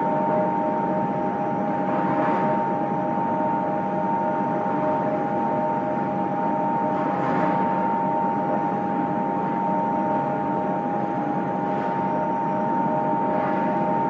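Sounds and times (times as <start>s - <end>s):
machines droning with whine: 0.0s - 14.0s.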